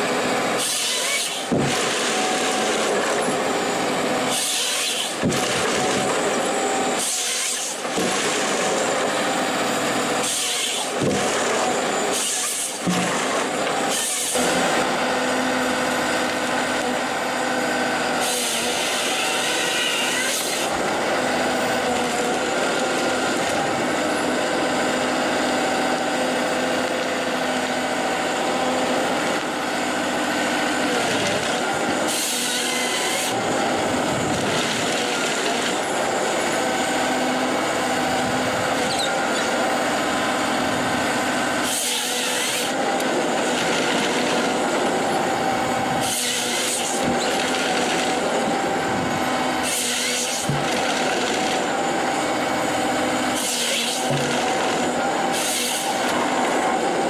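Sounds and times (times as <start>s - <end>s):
chainsaw bar cutting trunks: 0.0s - 57.0s
harvester engine and hydraulics: 0.0s - 57.0s.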